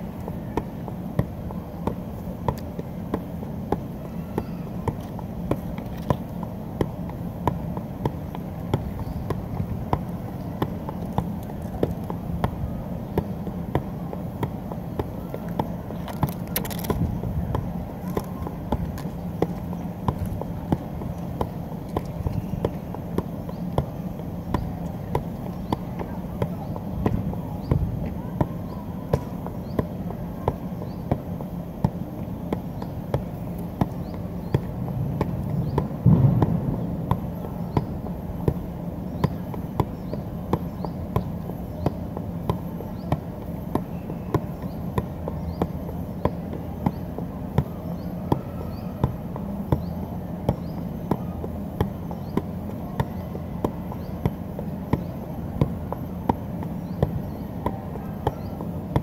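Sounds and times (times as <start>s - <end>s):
soccer ball kicks: 0.4s - 59.0s.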